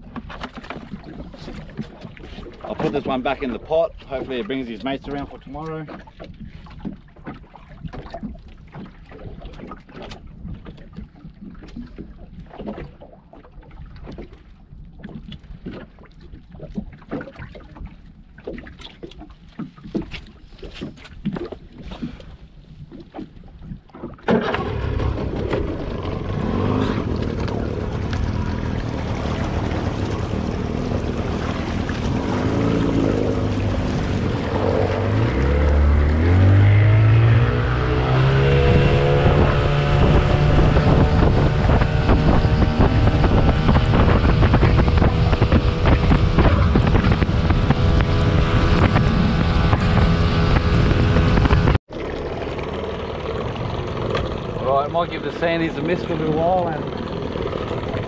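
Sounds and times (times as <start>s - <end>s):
outboard motor running: 0.0s - 58.0s
rushing water: 0.0s - 58.0s
water lapping: 0.0s - 58.0s
wind: 0.0s - 58.0s.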